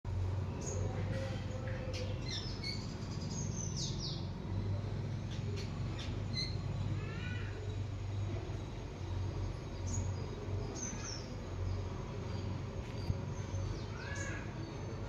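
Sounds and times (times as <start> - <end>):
small birds chirping: 0.1 - 15.0
steady low hum: 0.1 - 15.0.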